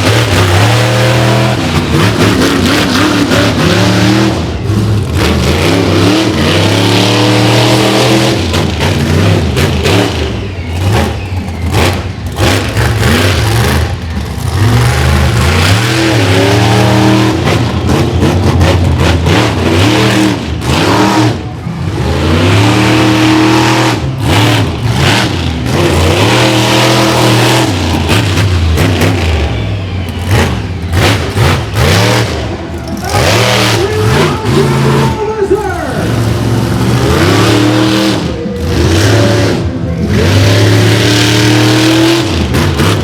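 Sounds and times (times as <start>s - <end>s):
monster truck engine revving: 0.0s - 43.0s.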